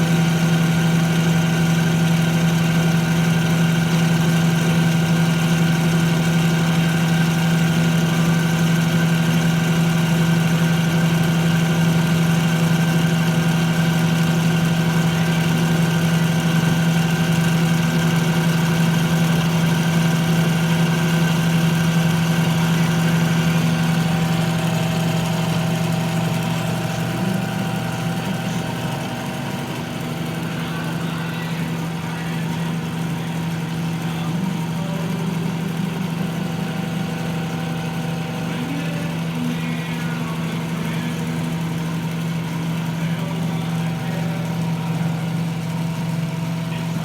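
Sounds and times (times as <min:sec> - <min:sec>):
metal lathe humming: 0:00.0 - 0:47.0.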